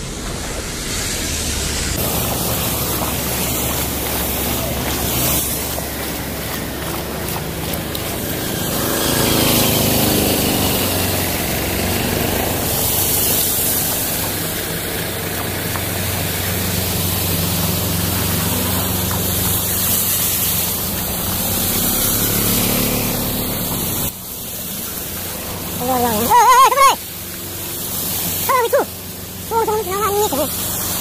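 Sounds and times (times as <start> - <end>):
vehicle engine running: 0.0 - 31.0
water spraying from tyres: 0.0 - 31.0.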